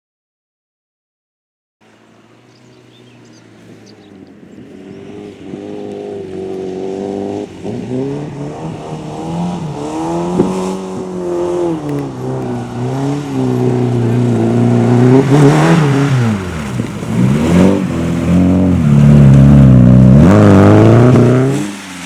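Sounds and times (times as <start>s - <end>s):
rally car engine revving: 1.8s - 22.0s.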